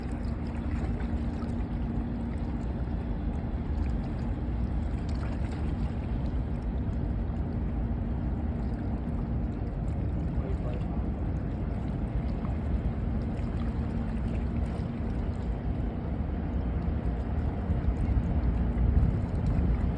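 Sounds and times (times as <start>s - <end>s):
boat engine hum: 0.0s - 19.9s
heavy low engine rumble: 0.0s - 19.9s.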